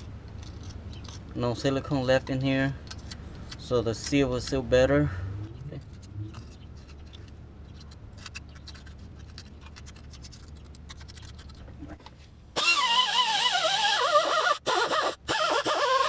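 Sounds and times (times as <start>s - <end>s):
low steady hum: 0.0s - 14.1s.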